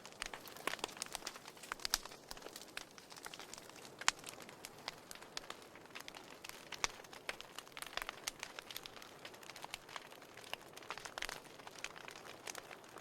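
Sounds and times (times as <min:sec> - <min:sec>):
fire hissing softly: 0:00.0 - 0:13.0
wood fire crackling and popping: 0:00.0 - 0:13.0.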